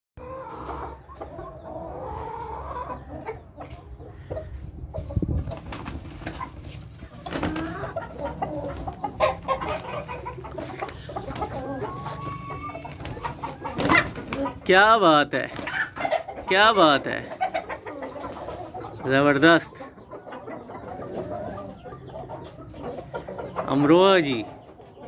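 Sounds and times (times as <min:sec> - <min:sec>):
chickens clucking: 0:00.2 - 0:25.0.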